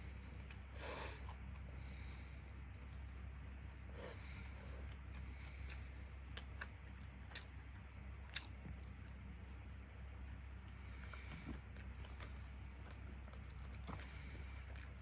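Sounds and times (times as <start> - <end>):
person chewing food: 0.0 - 9.6, 10.6 - 15.0
steady low hum: 0.0 - 15.0.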